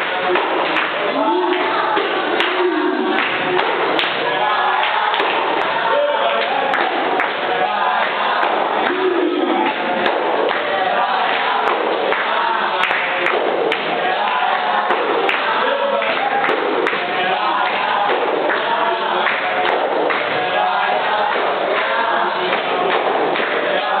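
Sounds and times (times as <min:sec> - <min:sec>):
group singing together: 0:00.0 - 0:24.0.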